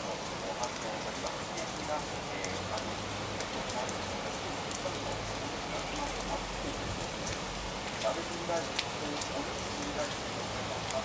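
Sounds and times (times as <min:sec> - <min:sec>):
rain falling: 0:00.0 - 0:11.0
raindrops ticking close by: 0:00.0 - 0:11.0.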